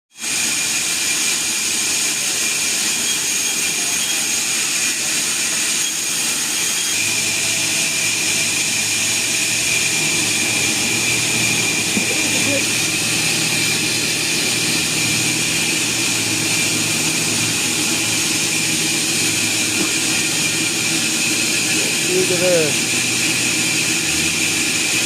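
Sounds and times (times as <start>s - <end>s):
sawmill machinery whine: 0.2s - 25.0s.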